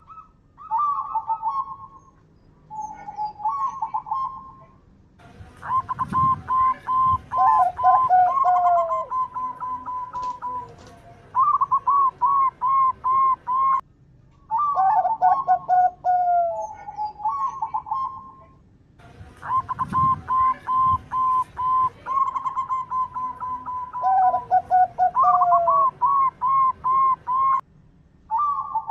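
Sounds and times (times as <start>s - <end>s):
dove cooing: 0.0s - 2.1s, 2.7s - 4.8s, 5.5s - 13.8s, 14.5s - 18.6s, 19.3s - 27.6s, 28.3s - 28.9s.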